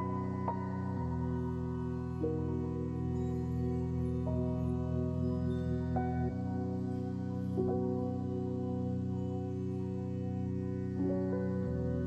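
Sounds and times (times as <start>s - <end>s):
ambient new-age music: 0.0s - 12.0s.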